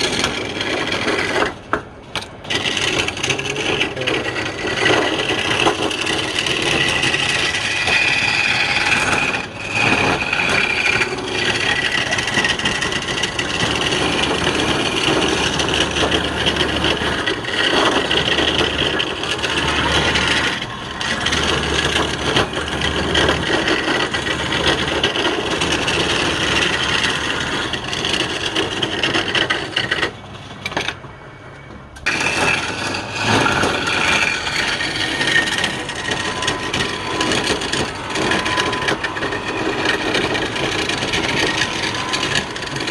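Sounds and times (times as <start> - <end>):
lathe turning tool scraping wood: 0.0 - 31.0, 32.0 - 42.9.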